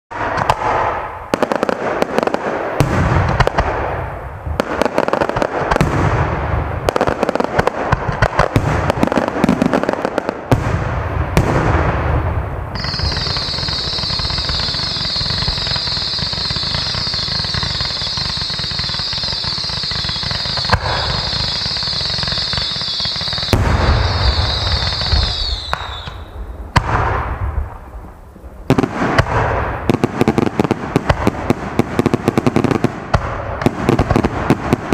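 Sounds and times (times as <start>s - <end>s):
fireworks bangs: 0.1s - 34.9s
fireworks crackling: 0.1s - 34.9s
high-pitched firework hiss: 0.2s - 34.9s.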